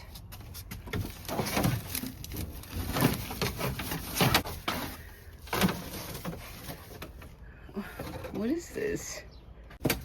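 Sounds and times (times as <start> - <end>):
rattling and scraping of van parts: 0.0 - 9.1, 9.7 - 10.0.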